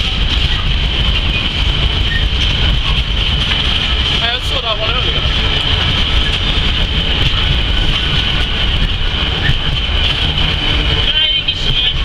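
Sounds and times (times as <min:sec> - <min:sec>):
freight train wheels rumbling: 0:00.0 - 0:12.0
steady high whine: 0:00.0 - 0:12.0.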